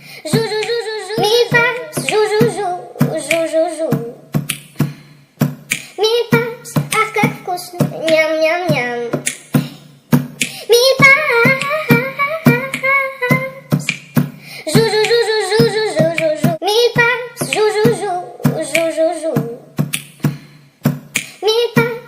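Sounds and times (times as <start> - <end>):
cheerful song with high singing: 0.0 - 22.0.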